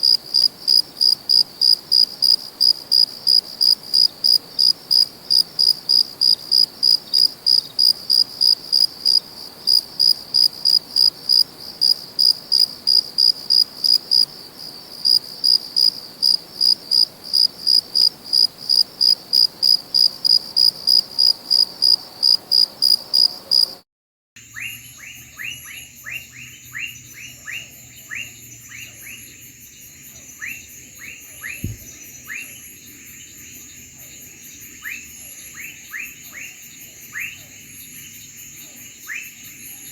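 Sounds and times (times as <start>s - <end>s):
cricket chirping: 0.0s - 23.8s, 24.4s - 39.9s.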